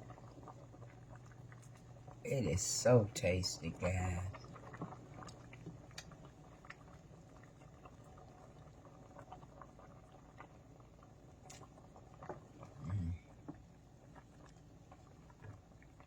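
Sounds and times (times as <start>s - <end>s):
soup simmering with bubble pops: 0.0s - 16.0s.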